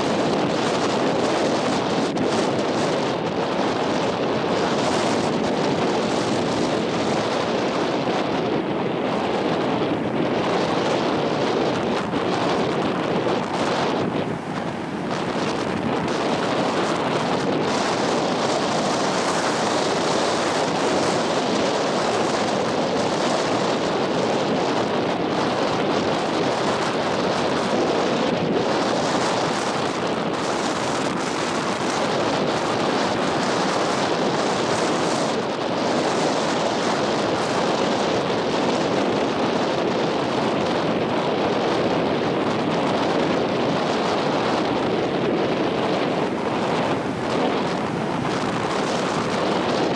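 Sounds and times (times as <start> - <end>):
beach surf: 0.0 - 49.9
wind buffeting microphone: 0.0 - 49.9.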